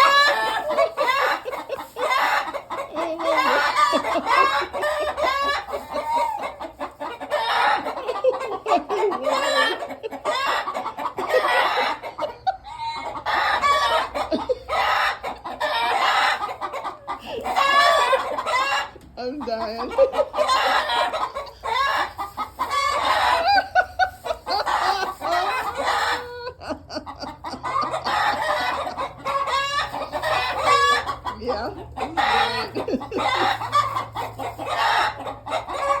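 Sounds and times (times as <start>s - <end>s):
chickens clucking and squawking: 0.0s - 36.0s.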